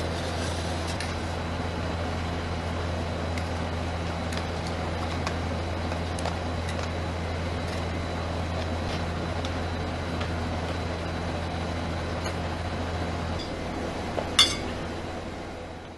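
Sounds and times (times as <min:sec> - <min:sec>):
ice cream machine humming: 0:00.0 - 0:15.9.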